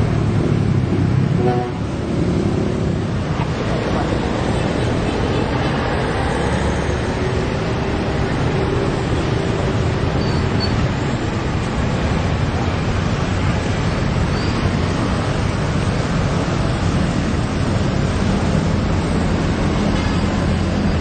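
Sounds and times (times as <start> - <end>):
rumble of passing vehicles: 0.0 - 21.0.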